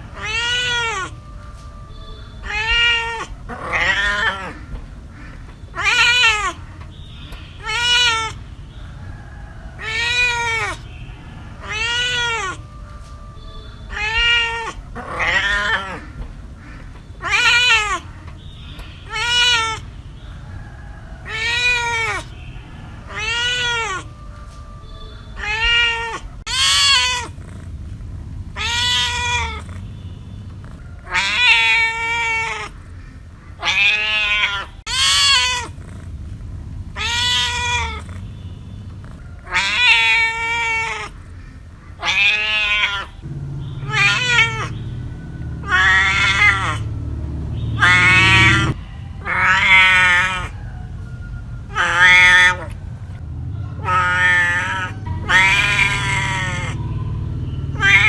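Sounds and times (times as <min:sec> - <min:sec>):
cat meowing: 0:00.0 - 0:04.7, 0:05.3 - 0:07.0, 0:07.6 - 0:08.9, 0:09.8 - 0:16.2, 0:16.8 - 0:18.4, 0:19.0 - 0:19.9, 0:21.2 - 0:27.7, 0:28.5 - 0:32.8, 0:33.6 - 0:36.1, 0:36.9 - 0:41.3, 0:41.9 - 0:46.9, 0:47.7 - 0:50.6, 0:51.7 - 0:58.0.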